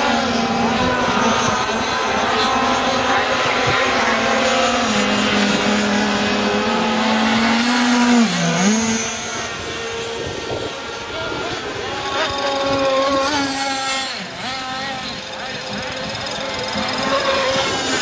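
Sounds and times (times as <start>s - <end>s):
model boat engines whining: 0.0s - 18.0s.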